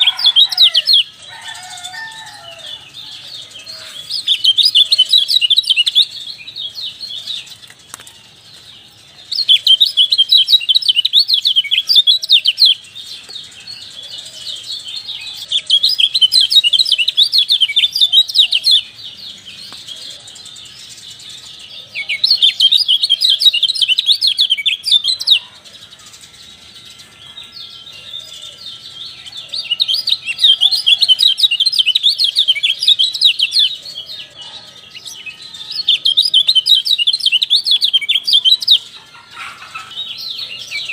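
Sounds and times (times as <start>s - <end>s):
songbirds twittering: 0.0s - 40.9s.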